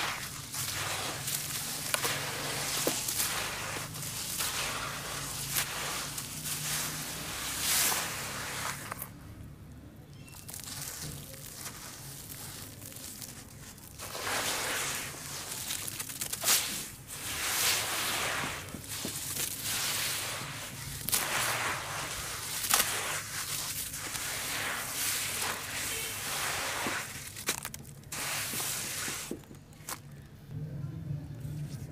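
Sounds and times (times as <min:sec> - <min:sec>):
hands crumbling wet ash: 0:00.0 - 0:09.5, 0:10.1 - 0:30.3.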